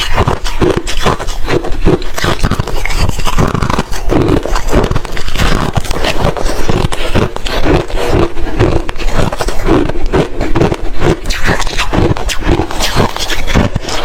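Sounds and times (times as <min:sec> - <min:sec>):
ice crunching while chewed: 0:00.0 - 0:14.0.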